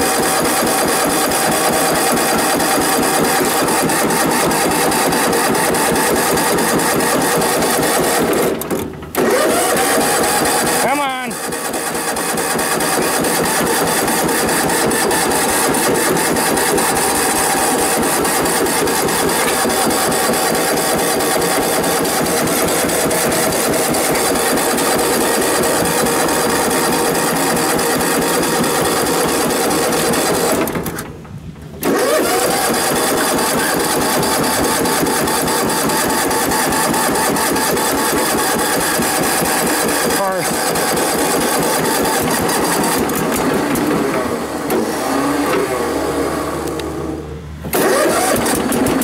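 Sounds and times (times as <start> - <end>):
small tractor engine running: 0.0 - 49.0.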